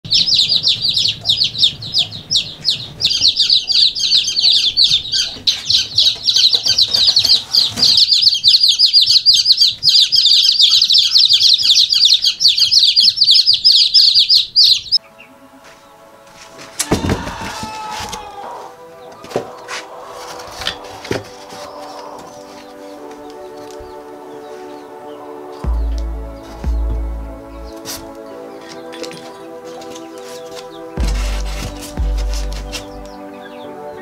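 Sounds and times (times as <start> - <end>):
chicks peeping: 0.0 - 34.0.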